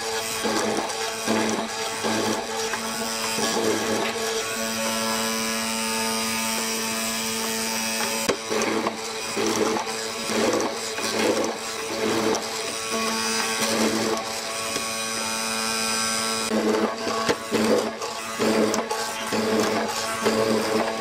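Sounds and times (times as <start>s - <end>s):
mortiser motor hum: 0.0s - 21.0s.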